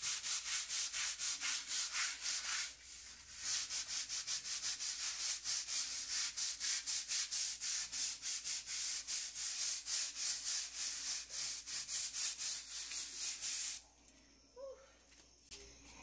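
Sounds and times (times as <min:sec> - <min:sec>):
brush scrubbing rough wall: 0:00.0 - 0:13.8.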